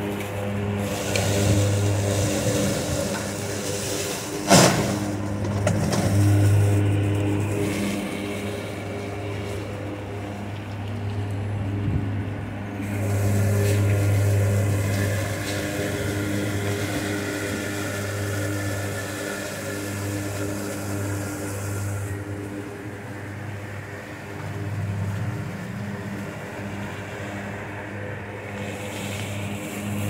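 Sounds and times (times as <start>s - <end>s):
hissing of cut grass: 0.0s - 30.0s
mower humming: 0.0s - 30.0s.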